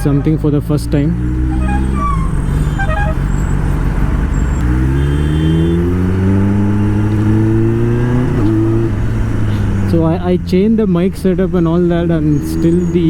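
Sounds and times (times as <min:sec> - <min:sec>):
motorcycle engine accelerating: 0:00.0 - 0:13.0
road noise rushing: 0:00.0 - 0:13.0.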